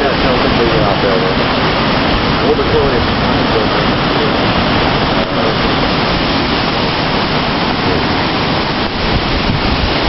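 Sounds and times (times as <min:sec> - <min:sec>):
strong storm wind rushing: 0:00.0 - 0:10.0
wind blowing across microphone: 0:00.0 - 0:10.0.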